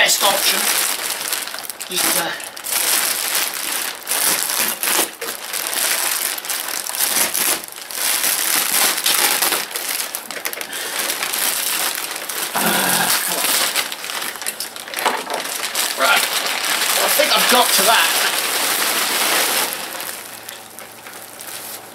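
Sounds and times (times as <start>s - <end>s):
plastic wrapping crinkling: 0.0s - 21.9s.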